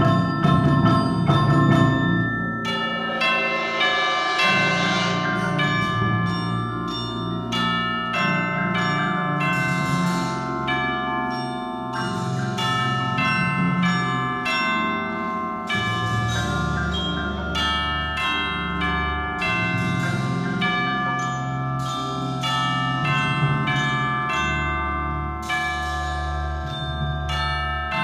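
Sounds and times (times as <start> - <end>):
marimbas and vibraphones striking chords: 0.0 - 28.0.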